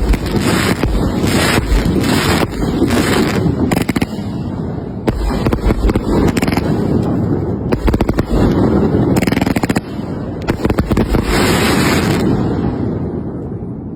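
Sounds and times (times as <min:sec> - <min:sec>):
firecrackers cracking: 0:00.0 - 0:12.6
steady low rumble: 0:00.0 - 0:13.9.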